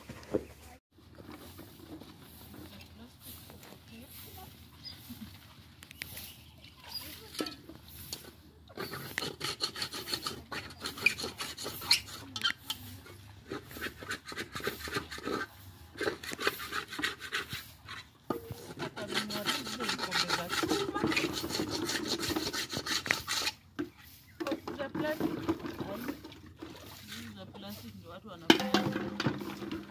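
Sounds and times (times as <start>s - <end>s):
dishes being scrubbed by hand: 1.4s - 29.9s.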